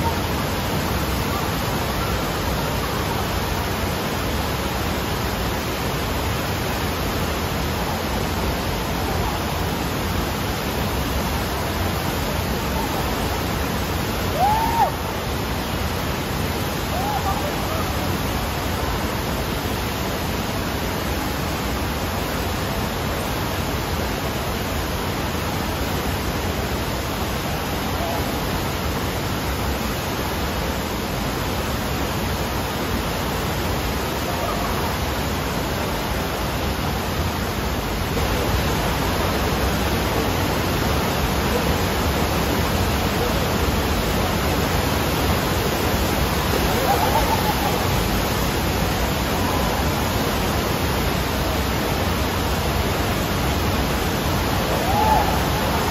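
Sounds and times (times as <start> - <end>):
rushing water on surf simulator: 0.0 - 55.9.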